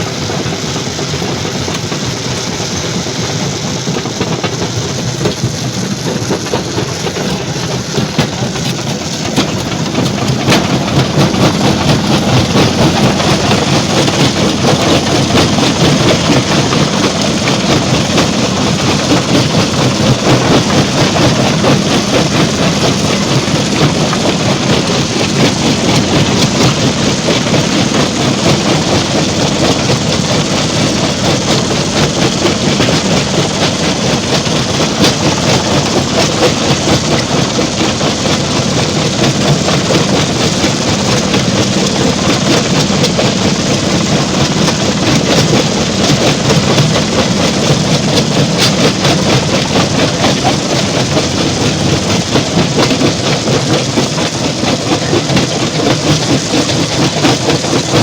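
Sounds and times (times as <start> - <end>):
stone crusher machinery clattering: 0.0 - 58.0.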